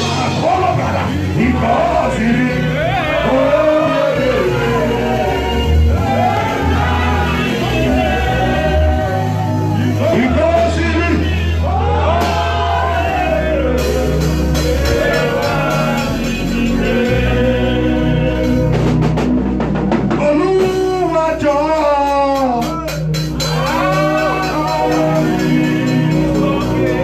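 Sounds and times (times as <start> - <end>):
voices singing: 0.0 - 19.3, 23.0 - 27.0
live band with bass and drums: 0.0 - 27.0.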